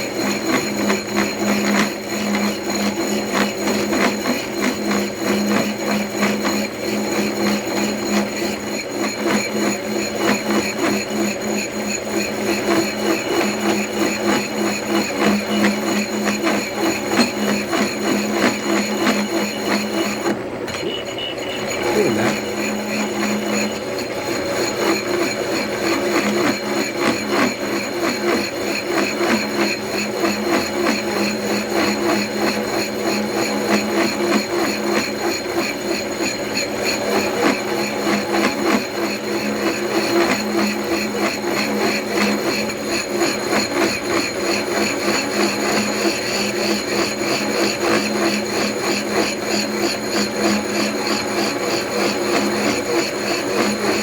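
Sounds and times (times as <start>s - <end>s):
milling machine cutting metal: 0.0s - 54.0s.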